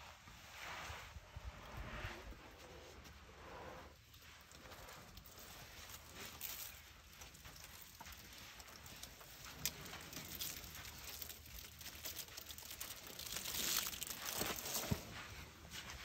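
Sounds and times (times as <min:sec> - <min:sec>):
elephants moving in dry sand: 0:00.0 - 0:16.0.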